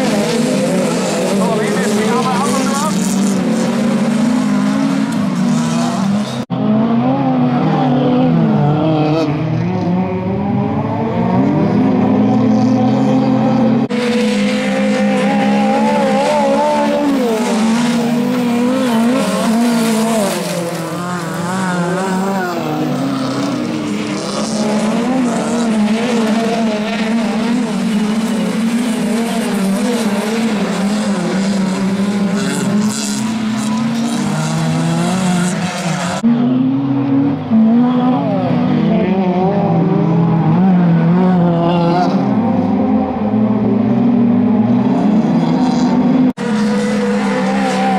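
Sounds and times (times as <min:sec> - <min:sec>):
race car engines revving: 0:00.0 - 0:47.9.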